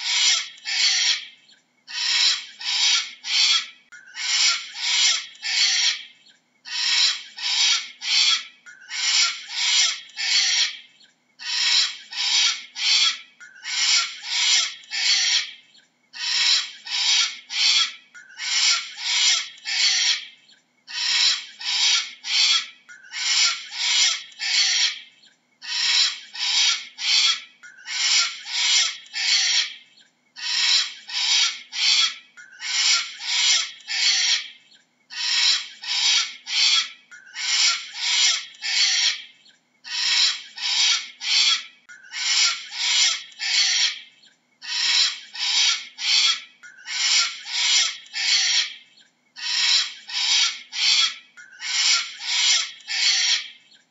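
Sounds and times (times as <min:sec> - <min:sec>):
cockatoo screeching: 0:00.0 - 0:01.3, 0:01.9 - 0:06.0, 0:06.7 - 0:10.8, 0:11.4 - 0:15.6, 0:16.2 - 0:29.8, 0:30.4 - 0:39.3, 0:39.9 - 0:48.8, 0:49.4 - 0:53.6.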